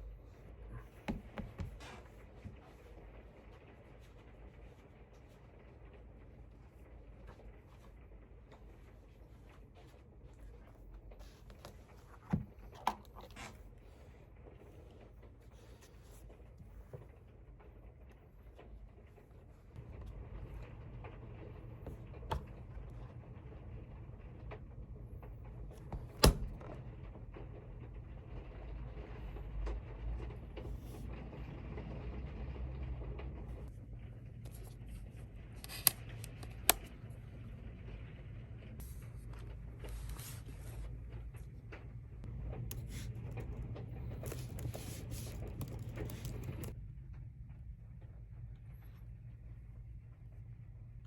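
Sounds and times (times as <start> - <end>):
low room hum with hiss: 0.0 - 51.0.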